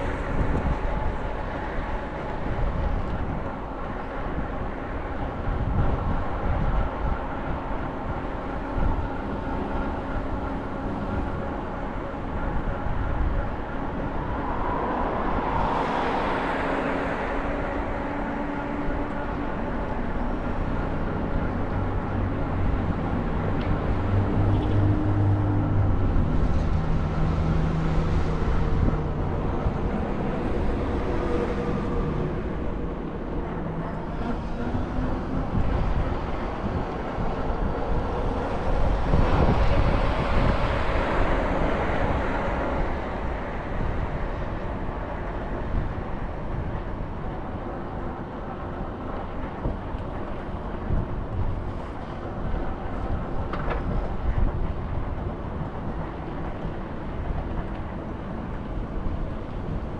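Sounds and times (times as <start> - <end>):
bus engine hum: 0.0 - 59.9
road rumble: 0.0 - 59.9.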